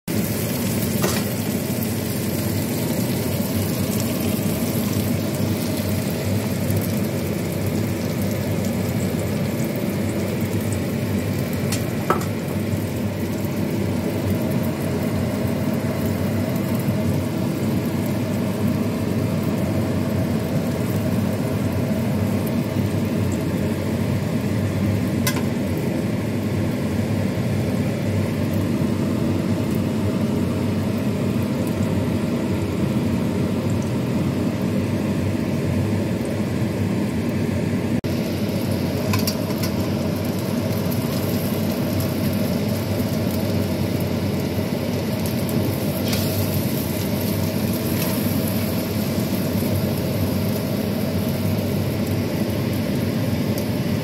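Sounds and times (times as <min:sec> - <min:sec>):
food sizzling in oil: 0:00.1 - 0:54.0.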